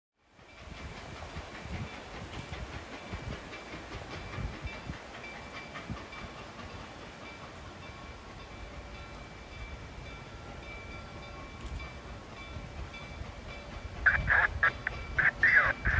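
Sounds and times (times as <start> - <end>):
steam locomotive hissing steam: 0.3 - 15.9.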